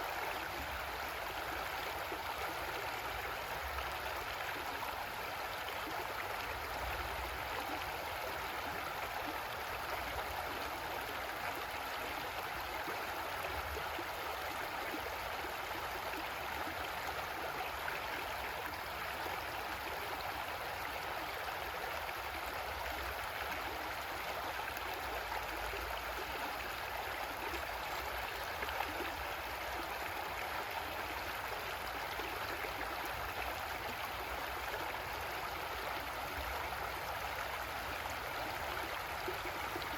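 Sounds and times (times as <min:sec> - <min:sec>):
creek water gurgling over rocks: 0:00.0 - 0:39.9.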